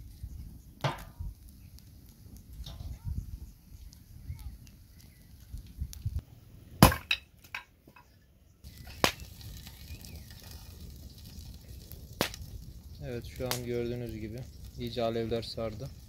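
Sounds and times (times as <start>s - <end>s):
fire crackling and snapping: 0.0s - 6.2s, 8.6s - 16.0s
low rush of flames: 0.0s - 6.8s, 8.6s - 16.0s.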